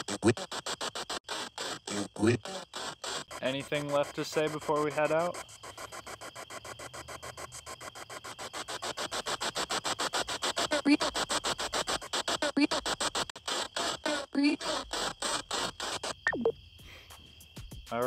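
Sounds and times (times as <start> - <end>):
radio static stutter: 0.0 - 16.5.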